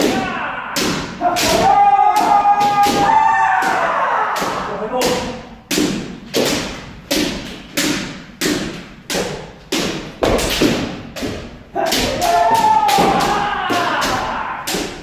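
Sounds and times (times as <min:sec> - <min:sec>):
sharp kendo strikes echoing: 0:00.0 - 0:15.0.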